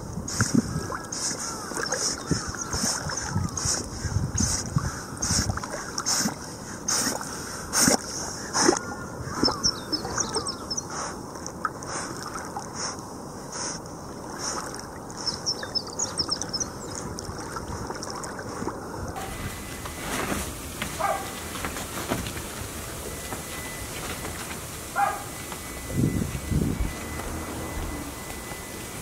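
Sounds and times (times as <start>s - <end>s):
moving water washing: 0.0s - 29.0s
dogs splashing in river water: 0.3s - 29.0s.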